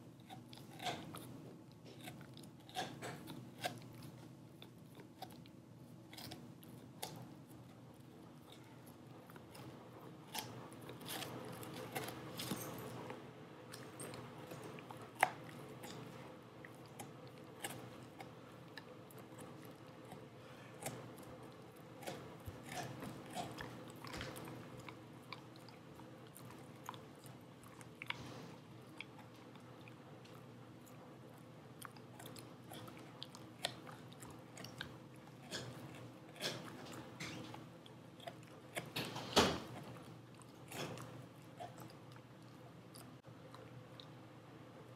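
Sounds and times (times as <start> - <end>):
dog chewing rawhide: 0.0 - 44.2.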